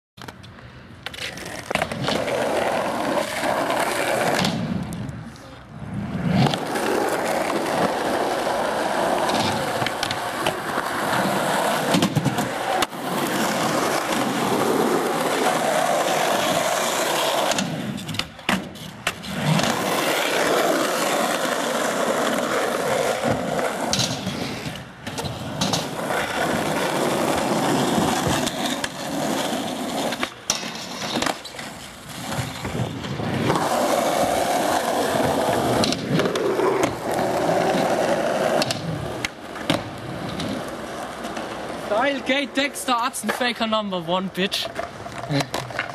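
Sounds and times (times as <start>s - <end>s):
skateboard popping and landing clacks: 0.2s - 5.5s, 6.1s - 41.9s, 43.1s - 43.6s, 44.5s - 45.9s
skateboard wheels rolling on concrete: 0.2s - 45.9s.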